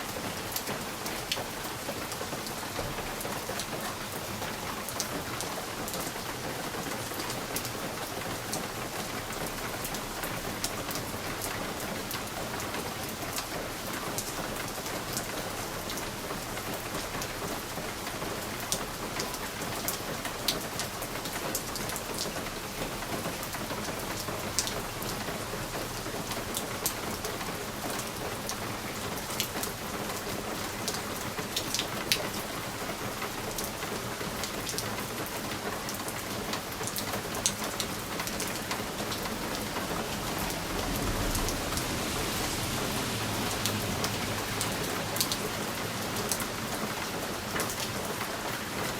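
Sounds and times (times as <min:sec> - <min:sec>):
rain on window glass: 0:00.0 - 0:48.9.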